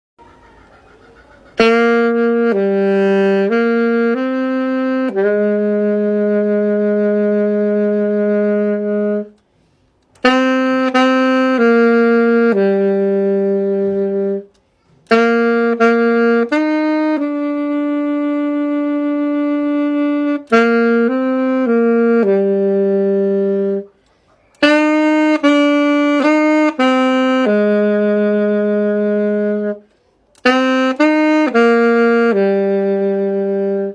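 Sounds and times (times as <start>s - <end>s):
solo saxophone melody: 1.4s - 33.9s.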